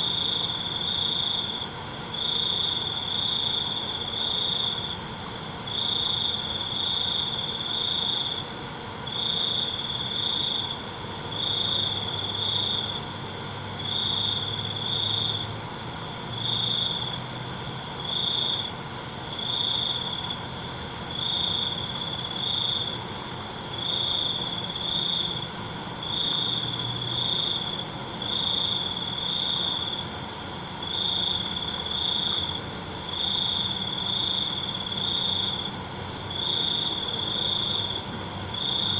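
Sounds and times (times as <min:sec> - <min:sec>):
cricket chorus: 0:00.0 - 0:38.9
insects buzzing: 0:00.0 - 0:38.9
loud cricket chirp: 0:00.0 - 0:38.9.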